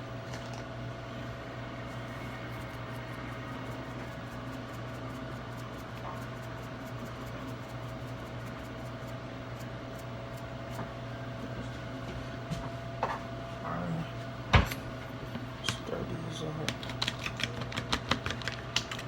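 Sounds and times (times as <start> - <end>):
kitchen hum: 0.0 - 19.0.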